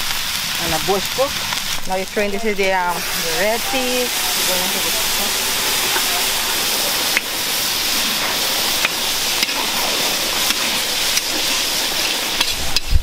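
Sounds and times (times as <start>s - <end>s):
sizzling hiss in pot: 0.0s - 13.0s.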